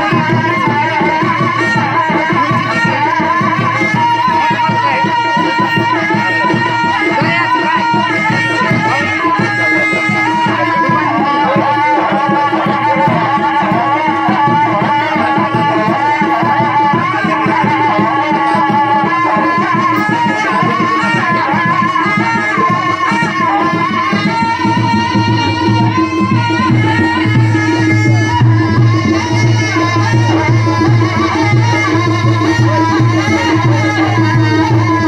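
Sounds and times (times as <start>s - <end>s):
rapid hand-drum beats: 0.0s - 35.0s
wavering high melody: 0.0s - 35.0s.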